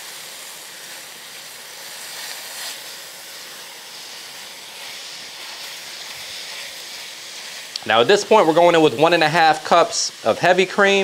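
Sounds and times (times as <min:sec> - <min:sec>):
wine sizzling in a hot skillet: 0:00.0 - 0:11.0.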